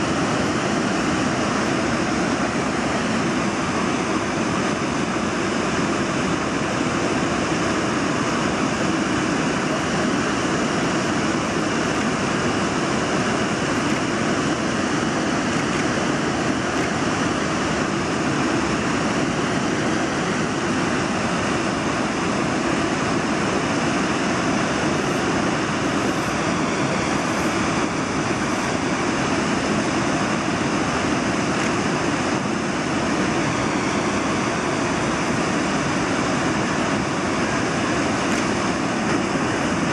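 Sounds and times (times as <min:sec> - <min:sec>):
fast-flowing river rushing: 0:00.0 - 0:39.9.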